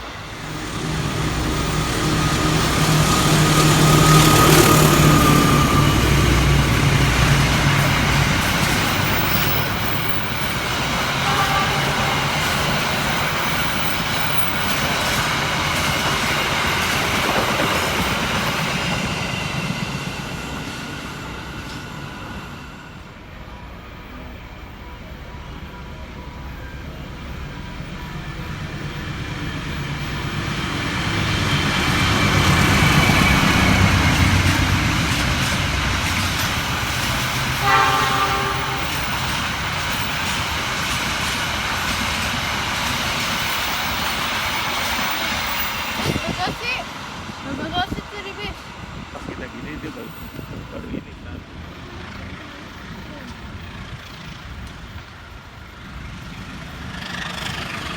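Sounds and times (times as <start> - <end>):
train approaching: 0.0 - 57.9
train passing through station: 0.0 - 57.9.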